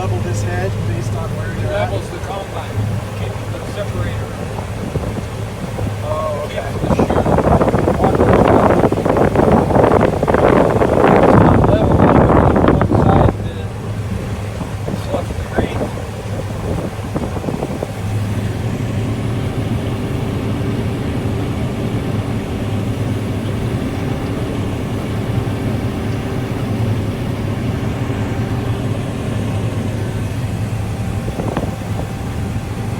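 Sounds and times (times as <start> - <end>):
combine harvester engine drone: 0.0 - 32.9.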